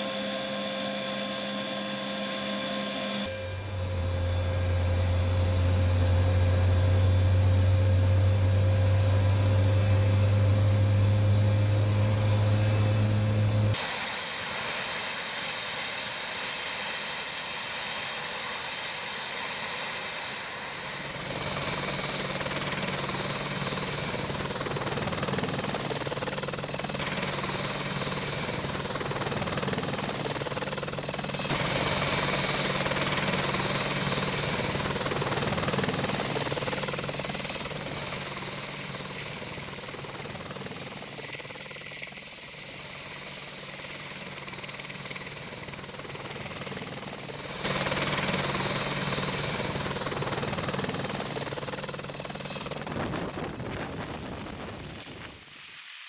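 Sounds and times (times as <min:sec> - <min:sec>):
helicopter main rotor beat: 0:00.0 - 0:55.0
helicopter engines hissing: 0:00.0 - 0:55.4.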